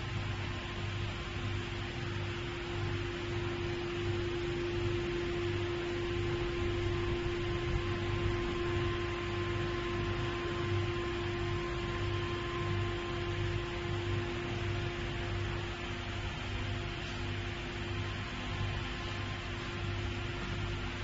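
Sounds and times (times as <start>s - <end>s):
electrical hum and hiss: 0.0s - 21.0s
low pulsing throb: 0.0s - 21.0s.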